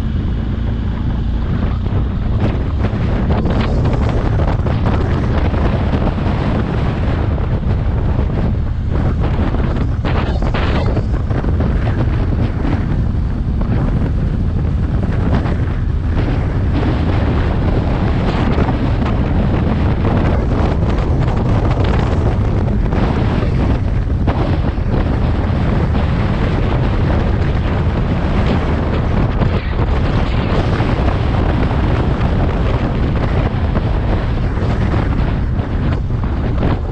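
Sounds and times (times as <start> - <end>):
motorcycle engine running: 0.0 - 36.9
wind rushing over microphone: 0.0 - 36.9.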